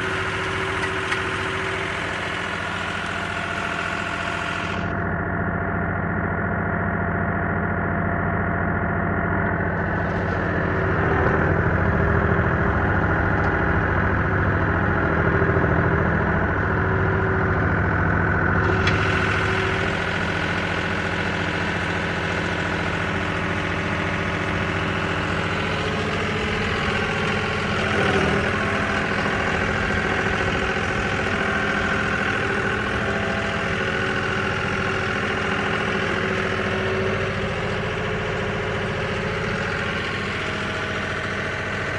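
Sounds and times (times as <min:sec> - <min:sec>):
tractor engine under load: 0:00.0 - 0:05.3, 0:08.7 - 0:41.9.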